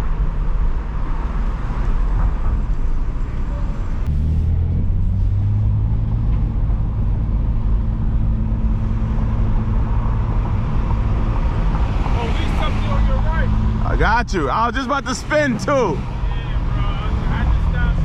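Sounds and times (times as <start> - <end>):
car engine drone: 0.0 - 18.0
road noise: 0.0 - 18.0.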